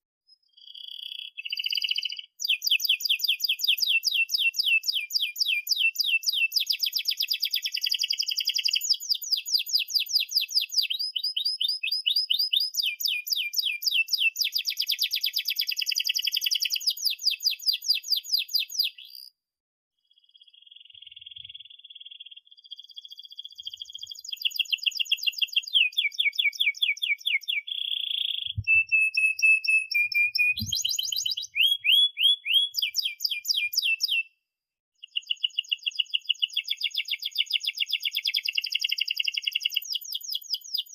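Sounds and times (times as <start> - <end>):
canary singing trills: 0.3 - 19.3, 20.1 - 34.3, 35.0 - 40.9.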